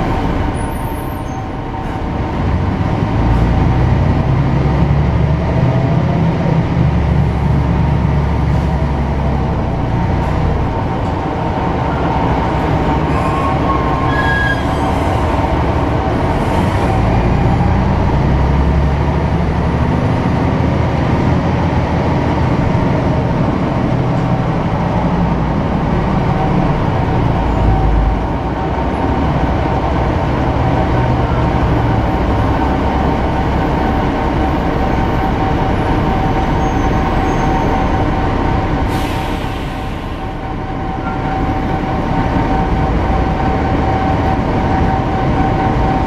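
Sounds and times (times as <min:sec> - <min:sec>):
bus engine rumble: 0:00.0 - 0:46.0.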